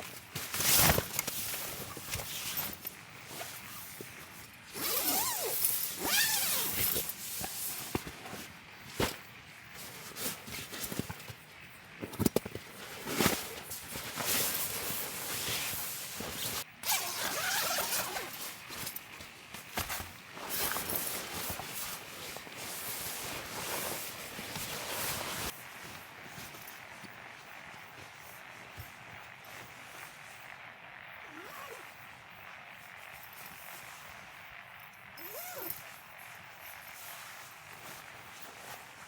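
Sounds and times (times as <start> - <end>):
rustling and scraping of gear: 0.0 - 39.0.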